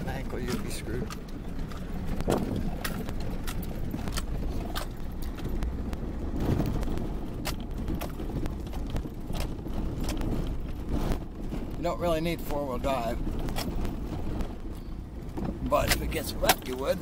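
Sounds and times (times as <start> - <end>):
vehicle rumble on dirt road: 0.0 - 17.0.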